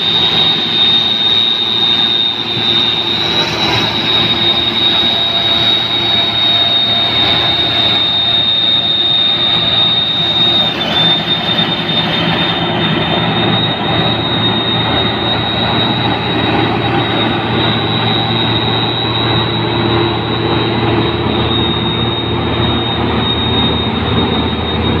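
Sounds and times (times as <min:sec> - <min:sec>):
combine harvester running: 0:00.0 - 0:25.0
high-pitched machine whine: 0:00.0 - 0:25.0.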